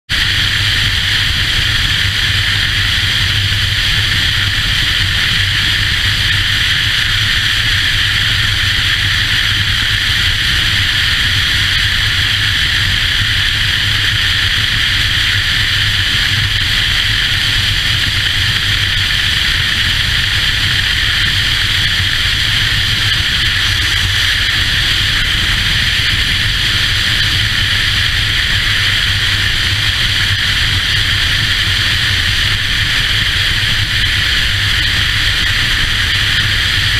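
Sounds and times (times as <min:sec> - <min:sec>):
motorcycle engine drone: 0:00.1 - 0:36.9
wind rushing over microphone: 0:00.1 - 0:36.9.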